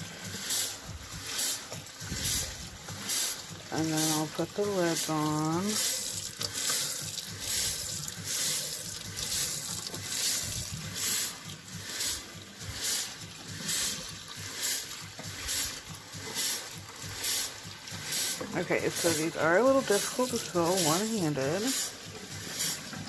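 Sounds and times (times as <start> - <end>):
tap water splashing into trays: 0.0 - 23.0.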